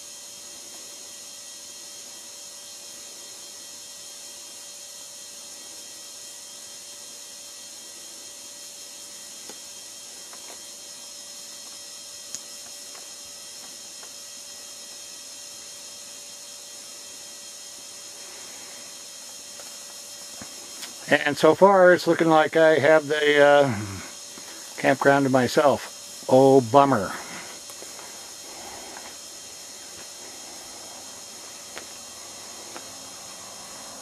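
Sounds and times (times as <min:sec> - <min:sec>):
camera recording hiss and hum: 0:00.0 - 0:34.0.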